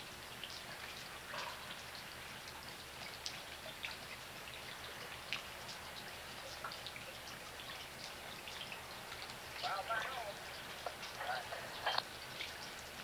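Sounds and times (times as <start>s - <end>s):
faint steady hiss: 0.0s - 13.0s
raindrops ticking: 0.0s - 13.0s.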